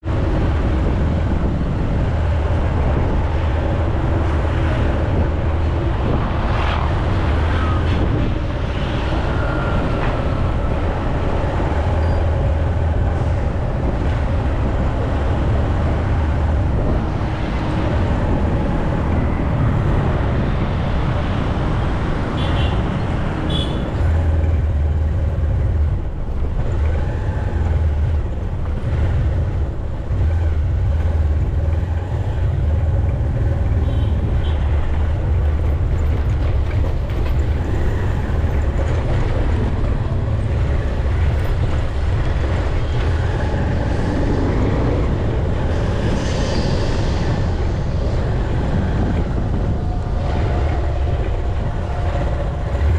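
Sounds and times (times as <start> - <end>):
heavy low rumble: 0.0 - 22.3, 23.1 - 52.9
vehicle and road noise: 0.0 - 52.9.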